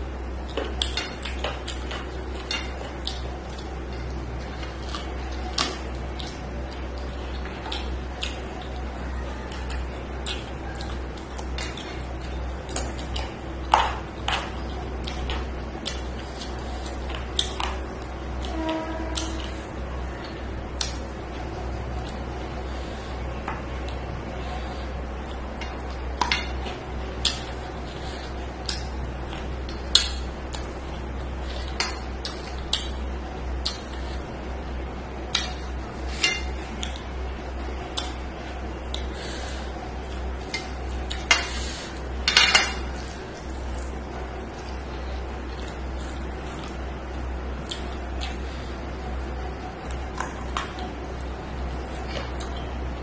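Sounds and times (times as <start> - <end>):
hand mixing food on steel plate: 0.0 - 53.0
steady low hum: 0.0 - 53.0.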